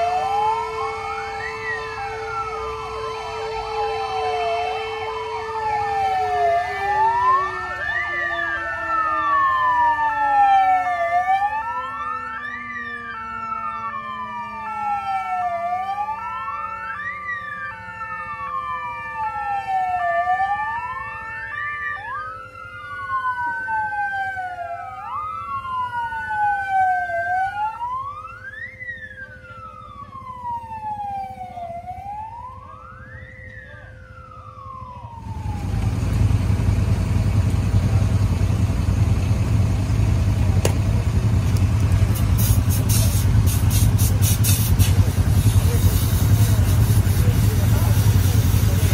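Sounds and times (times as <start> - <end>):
two-tone siren: 0.0 - 48.9
wail siren rising and falling: 0.0 - 48.9.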